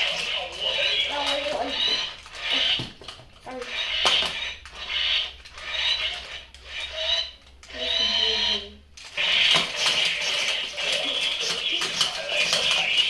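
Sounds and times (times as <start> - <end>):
toy robot gear motors whirring: 0.0 - 13.0.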